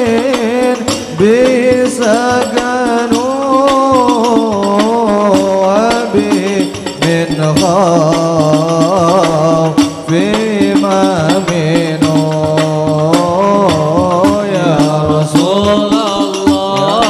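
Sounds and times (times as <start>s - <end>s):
frame drums beating: 0.0s - 17.0s
man singing wavering melody: 0.0s - 17.0s.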